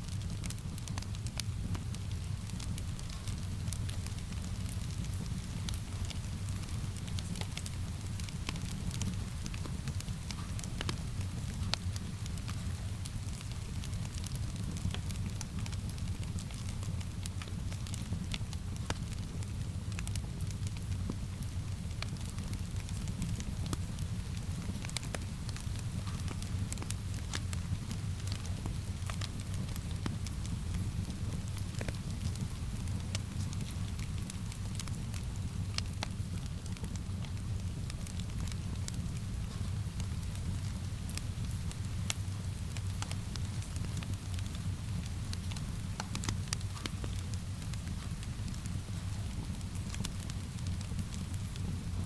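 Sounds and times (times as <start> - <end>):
wood fire crackling: 0.1 - 52.0.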